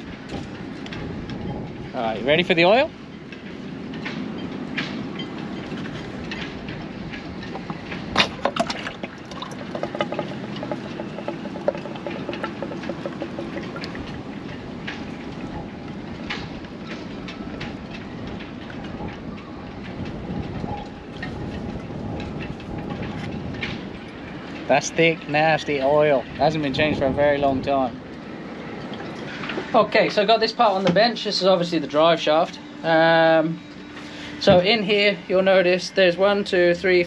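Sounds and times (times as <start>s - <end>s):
rushing background noise: 0.0s - 37.0s.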